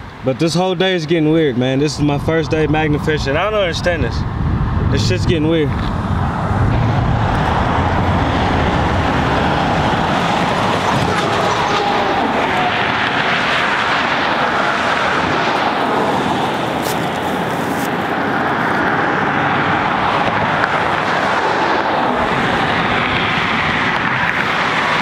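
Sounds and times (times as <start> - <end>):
vehicle rushing noise: 2.0 - 25.0.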